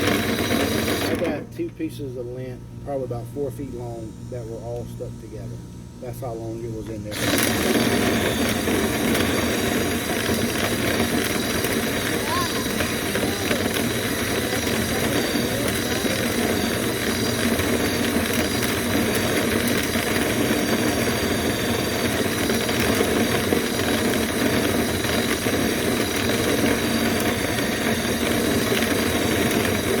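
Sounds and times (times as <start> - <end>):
motor running with rushing air: 0.0 - 1.7, 2.9 - 30.0.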